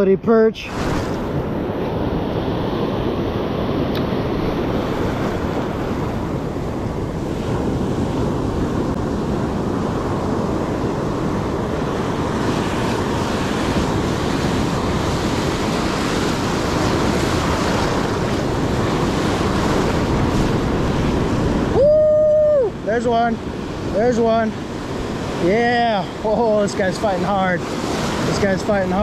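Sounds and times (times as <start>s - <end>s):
ocean surf washing up: 0.0s - 29.0s
wind on microphone: 0.0s - 29.0s.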